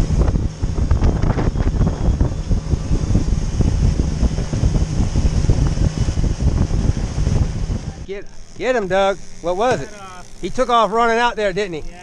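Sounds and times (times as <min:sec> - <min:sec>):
wind buffeting microphone: 0:00.0 - 0:09.9
boat motor drone: 0:00.0 - 0:12.0.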